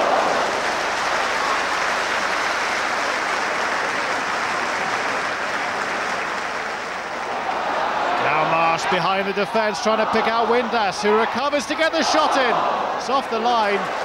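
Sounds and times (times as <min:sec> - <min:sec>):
stadium crowd noise: 0:00.0 - 0:14.0.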